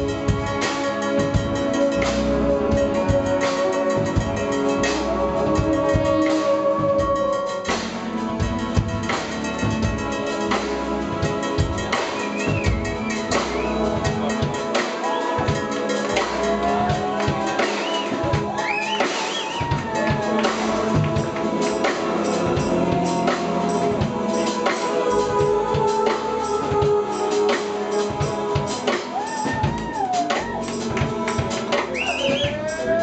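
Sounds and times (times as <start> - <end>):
electric bass: 0.0 - 14.6, 15.4 - 18.5, 19.8 - 28.8
drum kit: 0.0 - 33.0
keyboards: 0.0 - 33.0.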